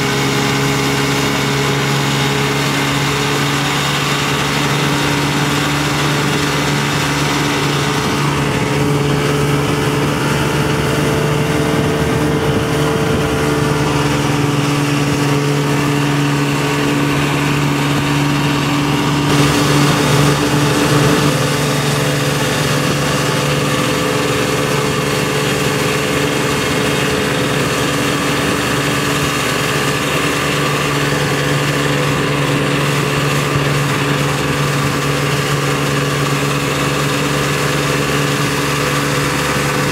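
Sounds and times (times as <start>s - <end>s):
boat engine running: 0.0s - 39.9s
water wash: 0.0s - 39.9s
wind noise: 0.0s - 39.9s.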